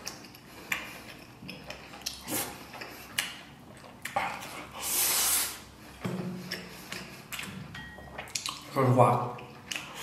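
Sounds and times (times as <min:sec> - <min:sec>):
chewing and wet smacking: 0:00.0 - 0:04.8, 0:05.7 - 0:10.0.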